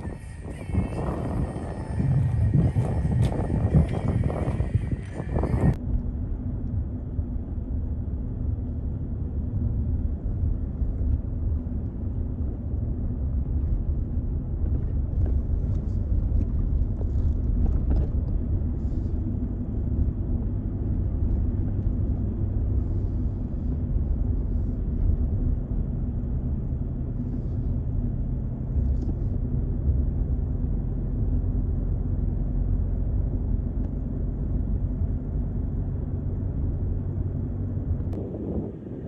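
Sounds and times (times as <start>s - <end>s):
low engine rumble: 0.0s - 39.0s.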